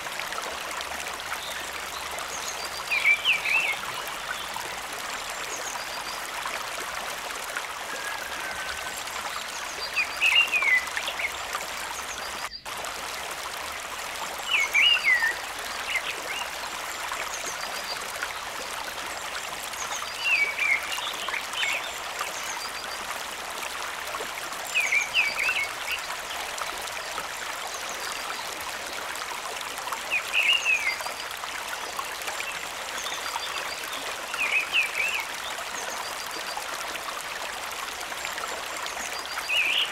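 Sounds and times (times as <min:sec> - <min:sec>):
water rushing in stream and waterfall: 0:00.0 - 0:39.9.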